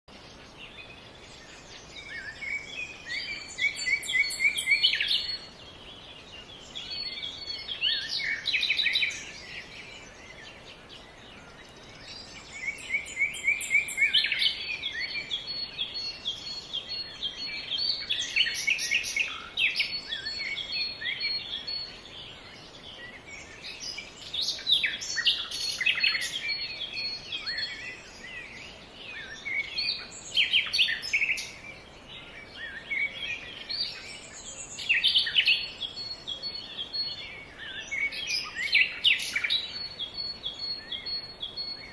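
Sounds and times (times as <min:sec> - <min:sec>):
faint background hiss: 0:00.1 - 0:41.9
songbirds chirping and trilling: 0:00.1 - 0:41.9.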